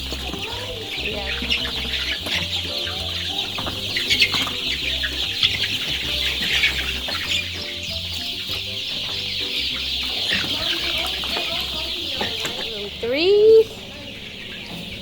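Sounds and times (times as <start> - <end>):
chickens cheeping and clucking: 0.0 - 15.0.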